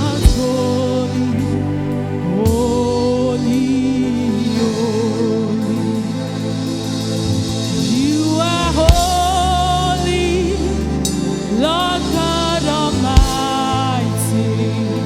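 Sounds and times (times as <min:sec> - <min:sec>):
sustained chords and bass: 0:00.0 - 0:15.0.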